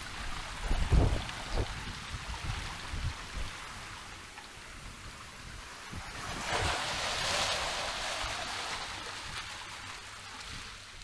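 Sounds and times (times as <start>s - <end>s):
sea wave rushing over rocks: 0.0s - 3.9s, 5.7s - 11.0s.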